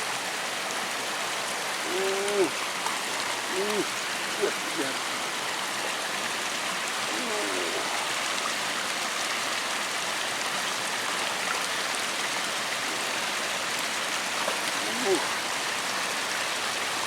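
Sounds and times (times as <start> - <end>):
water rushing in a stream: 0.0 - 17.0.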